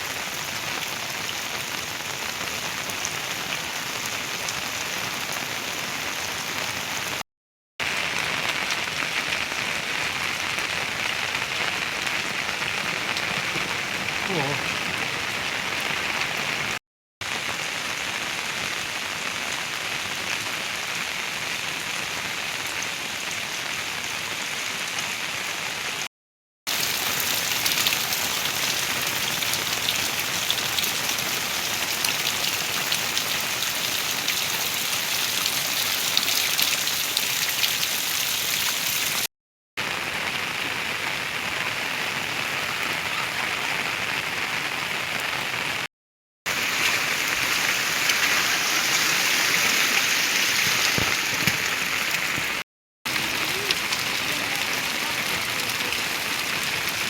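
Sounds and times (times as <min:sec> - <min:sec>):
heavy rain: 0:00.0 - 0:07.2, 0:07.8 - 0:26.1, 0:26.7 - 0:45.9, 0:46.5 - 0:57.0.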